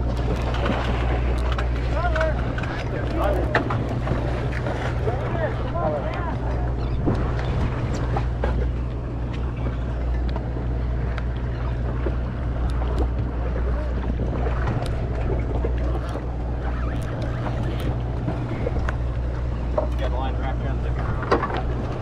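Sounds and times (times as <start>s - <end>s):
boat engine humming: 0.0s - 22.0s
sea noise: 0.0s - 22.0s
wind: 0.0s - 22.0s.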